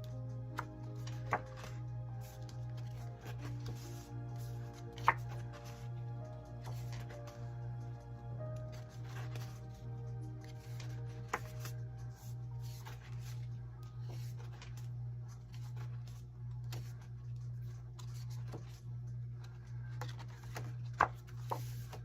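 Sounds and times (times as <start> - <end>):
paper rustling: 0.0 - 7.5, 8.6 - 22.0
steady low hum: 0.0 - 22.0.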